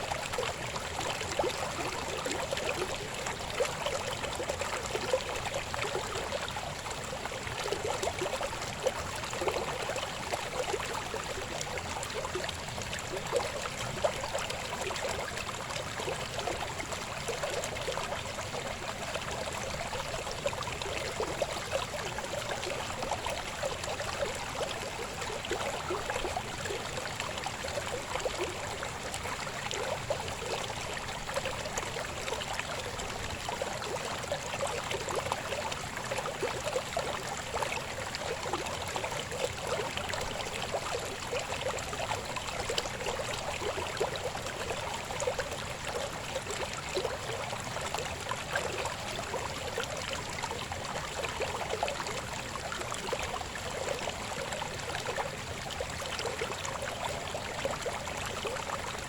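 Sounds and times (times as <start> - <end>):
river babbling over stones: 0.0 - 59.0.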